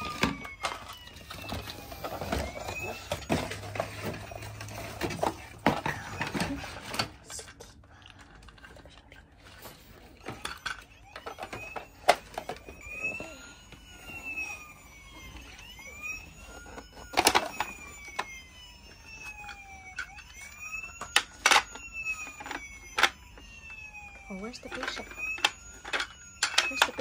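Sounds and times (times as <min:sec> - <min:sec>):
toy siren wailing: 0:00.0 - 0:08.7, 0:09.4 - 0:27.0
plastic parts clicking and knocking: 0:00.0 - 0:08.8, 0:10.2 - 0:13.9, 0:14.9 - 0:27.0.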